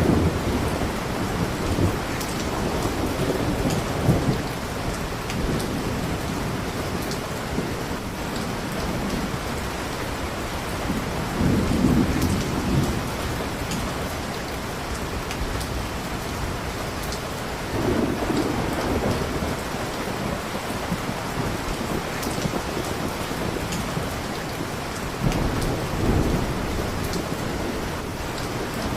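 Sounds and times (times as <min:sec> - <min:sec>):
heavy rain: 0:00.0 - 0:28.9
low thunder rumbles: 0:00.0 - 0:28.9.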